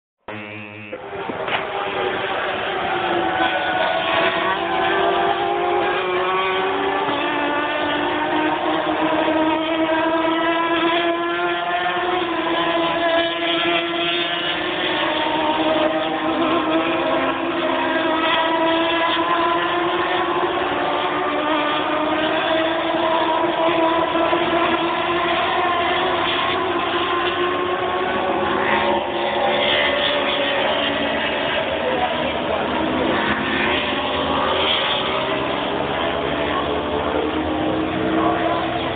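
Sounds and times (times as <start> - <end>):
racing motorcycles at high revs: 0.2 - 38.9.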